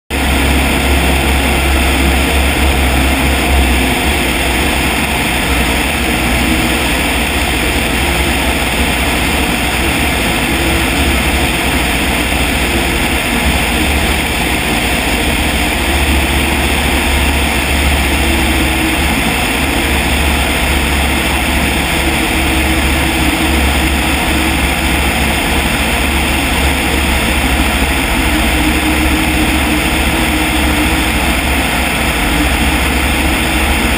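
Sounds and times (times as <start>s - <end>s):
light aircraft engine drone: 0.1s - 33.9s
propeller wash and wind: 0.1s - 33.9s.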